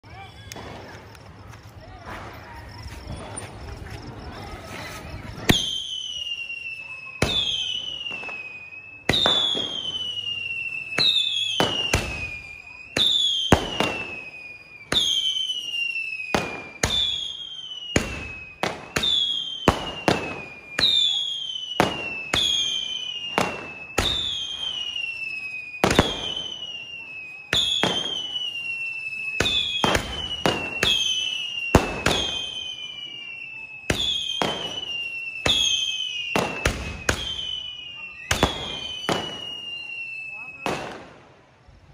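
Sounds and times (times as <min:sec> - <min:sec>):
firework bangs: 0:00.0 - 0:41.7
firework whistle falling in pitch: 0:04.8 - 0:41.2.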